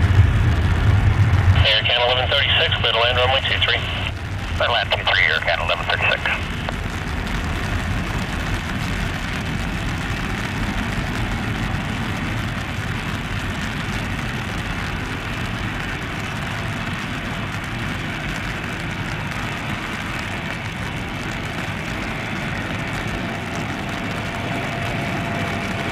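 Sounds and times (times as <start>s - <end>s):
distant jet engines rumbling: 0.0s - 25.9s
rain: 0.0s - 25.9s.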